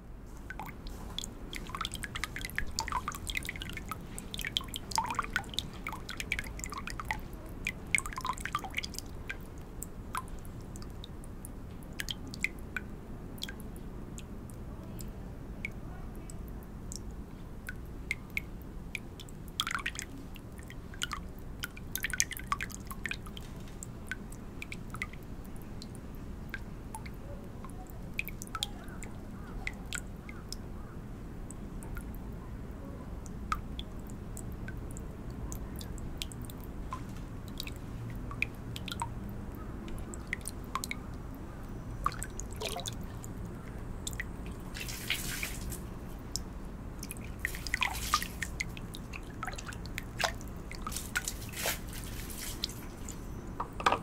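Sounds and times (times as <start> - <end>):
small drips and splashes: 0.3 - 53.6
water trickling into basin: 0.5 - 30.8, 31.4 - 53.6.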